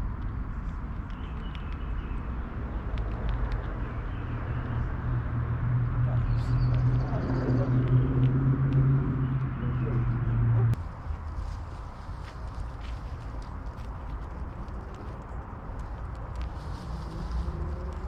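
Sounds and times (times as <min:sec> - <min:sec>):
engine hum: 0:02.3 - 0:18.0.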